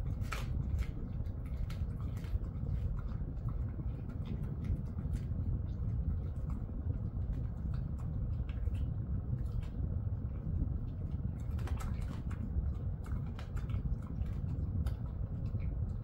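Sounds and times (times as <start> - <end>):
dog licking and crunching treats: 0.0 - 16.0
steady low hum: 0.0 - 16.0.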